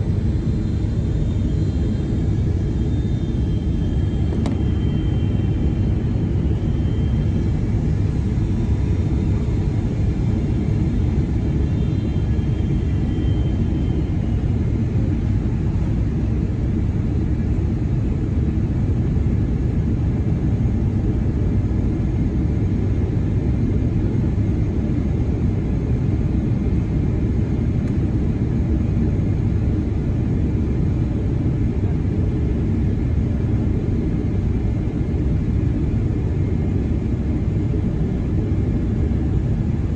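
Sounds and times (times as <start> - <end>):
airplane cabin engine rumble: 0.0 - 39.9
faint high whine: 0.0 - 39.9.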